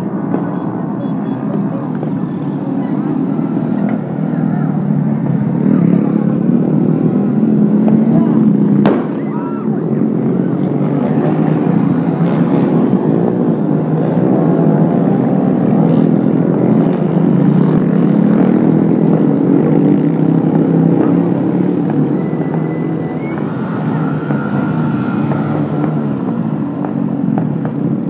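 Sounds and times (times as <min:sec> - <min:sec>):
motorbike and scooter engines: 0:00.0 - 0:28.0.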